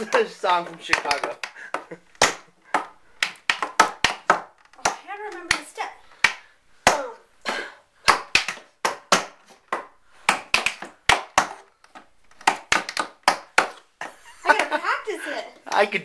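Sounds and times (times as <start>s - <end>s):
tap shoes clicking on wood: 0.0s - 7.1s, 8.0s - 14.8s.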